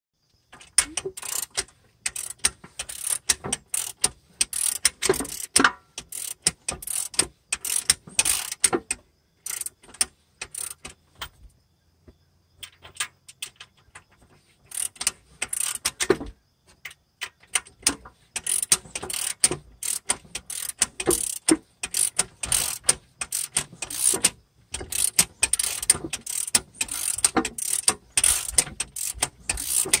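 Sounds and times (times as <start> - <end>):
ratchet wrench clicking: 0.6 - 11.0, 14.7 - 16.3, 17.2 - 30.0.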